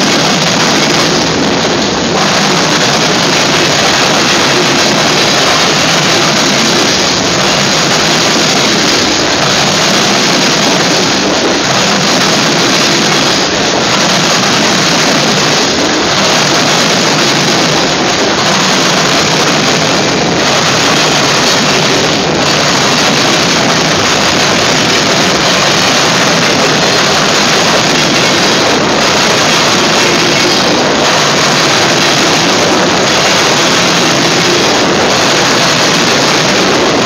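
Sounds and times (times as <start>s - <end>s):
freight cars rolling on rails: 0.0s - 37.0s.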